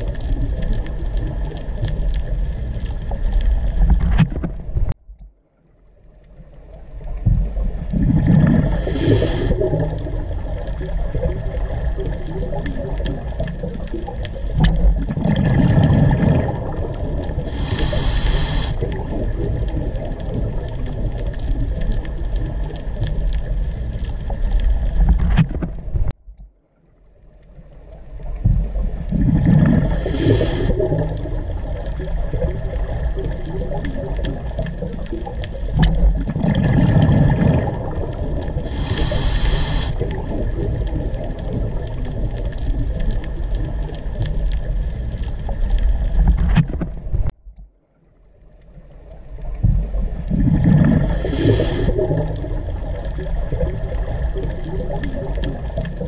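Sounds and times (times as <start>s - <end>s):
water-like gurgling with rumbling: 0.0s - 5.0s, 5.8s - 26.2s, 27.0s - 56.0s.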